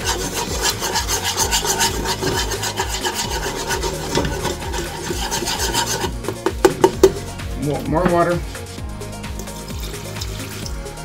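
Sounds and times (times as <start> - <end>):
whisk scraping pot bottom: 0.0 - 10.9.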